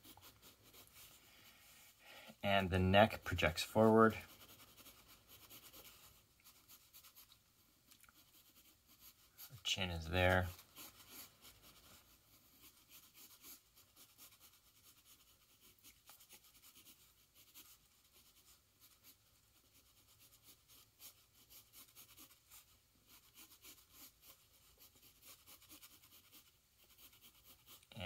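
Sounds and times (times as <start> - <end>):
pencil scratching on paper: 0.0 - 1.2, 2.5 - 7.4, 8.1 - 28.0.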